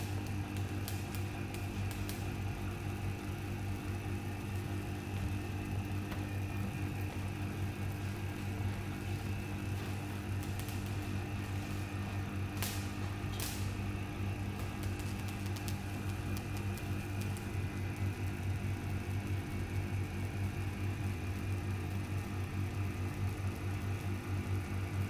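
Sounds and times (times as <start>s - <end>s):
motor and belt humming: 0.0s - 25.0s.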